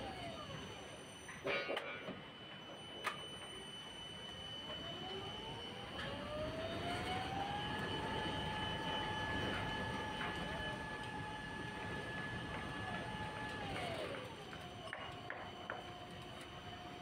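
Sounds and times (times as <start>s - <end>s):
constant high-pitched whine: 0.0s - 17.0s
drive motor whining: 2.2s - 17.0s.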